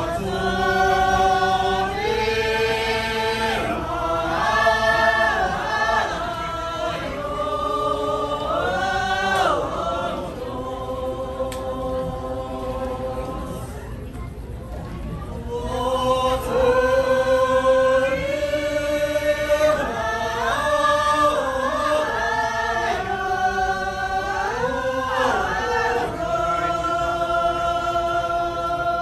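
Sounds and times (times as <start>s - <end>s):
group singing long sliding notes: 0.0s - 14.2s, 15.1s - 29.0s.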